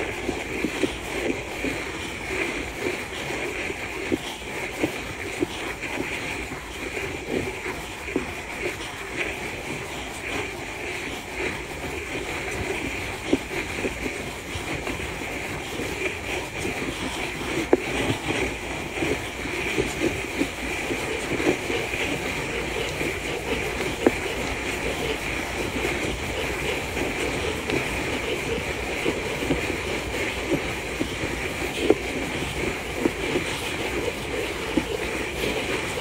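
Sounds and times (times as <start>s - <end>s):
constant high hum: 0.0s - 36.0s
mechanical rumble and rattle: 0.0s - 36.0s.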